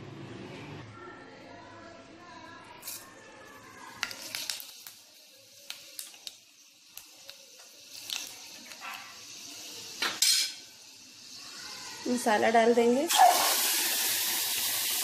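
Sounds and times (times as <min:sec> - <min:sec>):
seeds sizzling in hot oil: 0:02.8 - 0:15.0.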